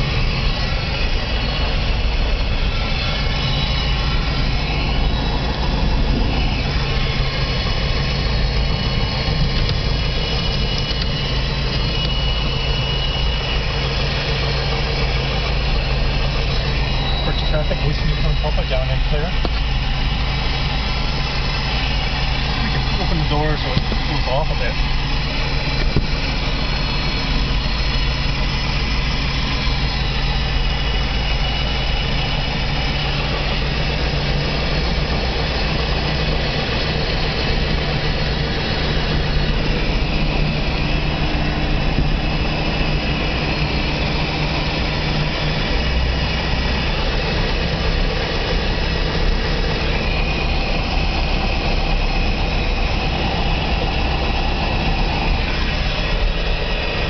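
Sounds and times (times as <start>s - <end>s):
light plane engine and propeller: 0.0s - 57.0s.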